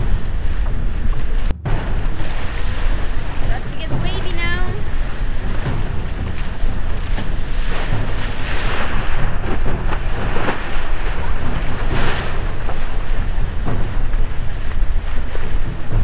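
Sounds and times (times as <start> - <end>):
waves slapping against hull: 0.0 - 16.0
wind buffeting microphone: 0.0 - 16.0.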